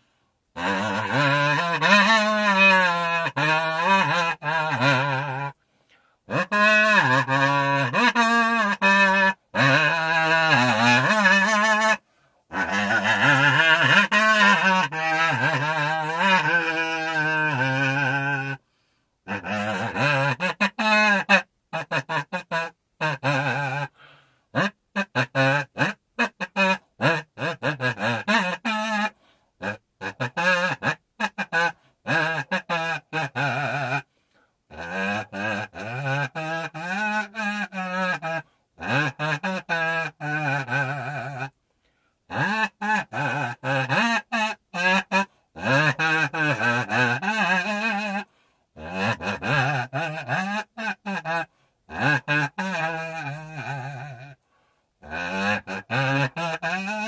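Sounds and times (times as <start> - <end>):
kazoo buzzing a melody: 0.0 - 57.0.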